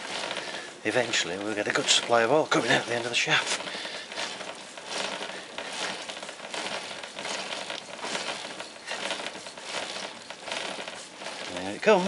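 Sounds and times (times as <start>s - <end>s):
gearbox turning mechanical rustle: 0.0s - 12.0s.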